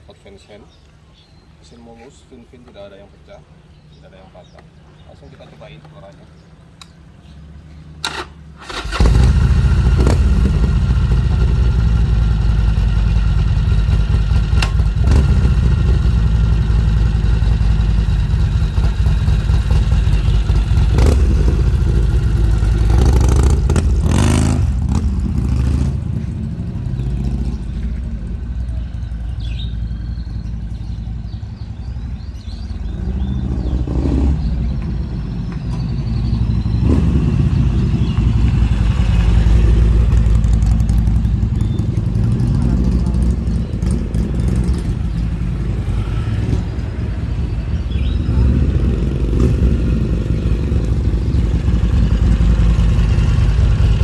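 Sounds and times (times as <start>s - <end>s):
motorcycle engine revving: 8.0s - 54.0s.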